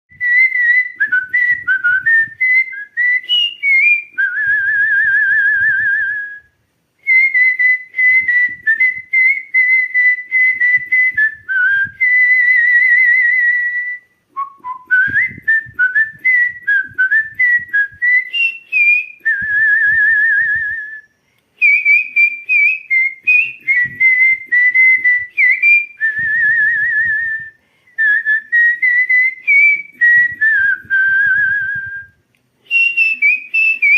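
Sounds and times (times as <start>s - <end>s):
person whistling birdsong: 0.1s - 33.9s.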